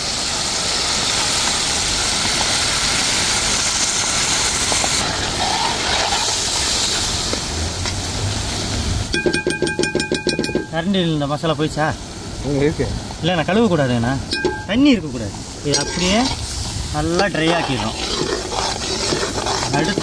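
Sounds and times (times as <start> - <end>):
food sizzling in oil: 0.0 - 11.8, 12.4 - 20.0.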